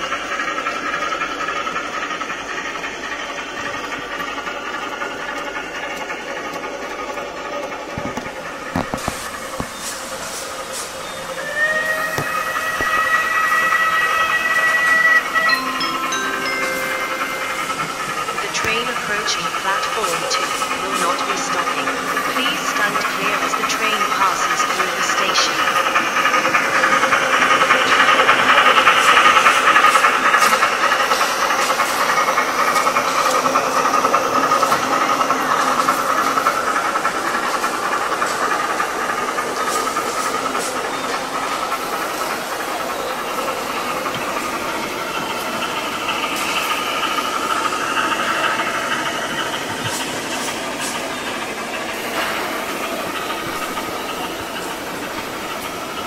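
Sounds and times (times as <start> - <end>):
model train whirring on track: 0.0 - 56.0.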